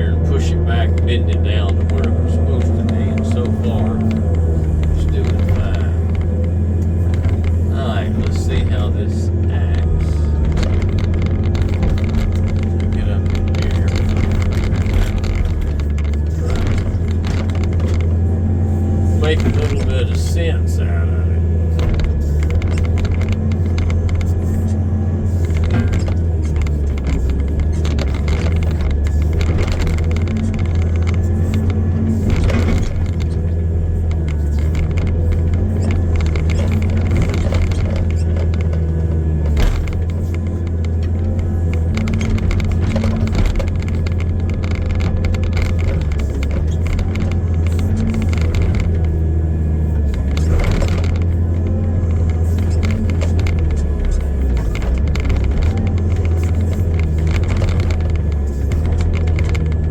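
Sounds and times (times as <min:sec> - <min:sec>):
excavator diesel engine: 0:00.0 - 0:59.9
machine clanks and rattles: 0:00.8 - 0:20.6, 0:21.7 - 0:59.9.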